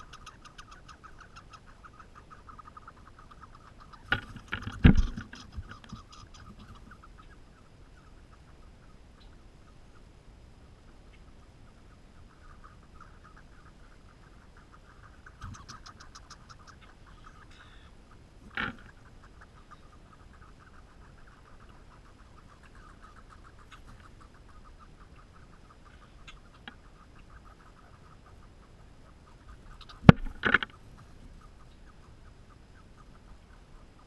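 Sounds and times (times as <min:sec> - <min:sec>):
squirrels scuffling on seed hulls: 0:00.0 - 0:09.3, 0:11.0 - 0:34.0
faint fast ticking: 0:00.0 - 0:34.0.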